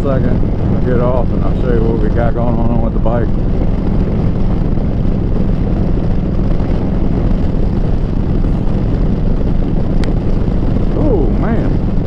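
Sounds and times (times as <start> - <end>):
motorcycle deep exhaust note: 0.0 - 12.0.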